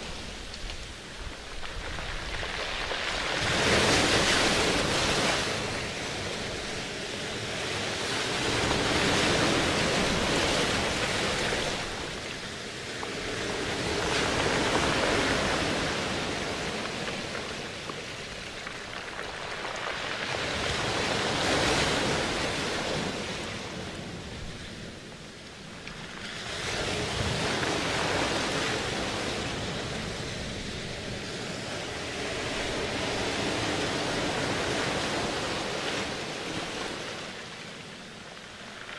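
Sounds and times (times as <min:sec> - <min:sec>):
ocean surf washing in: 0:02.1 - 0:38.9.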